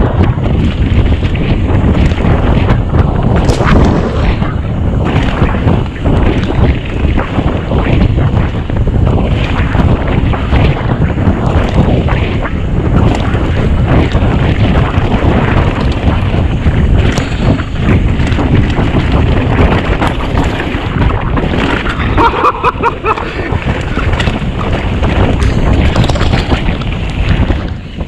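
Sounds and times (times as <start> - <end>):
bike rumbling and rattling: 0.0 - 28.0
wind buffeting microphone: 0.0 - 28.0.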